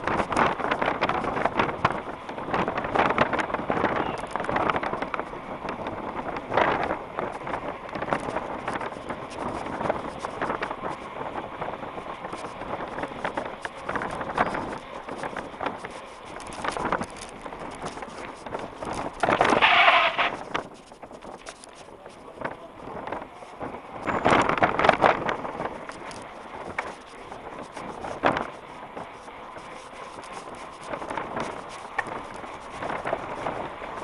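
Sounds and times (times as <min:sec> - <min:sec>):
bike rattling clicks: 0:00.0 - 0:34.0
bike tyre noise: 0:00.0 - 0:34.0
wind on microphone: 0:00.0 - 0:34.0.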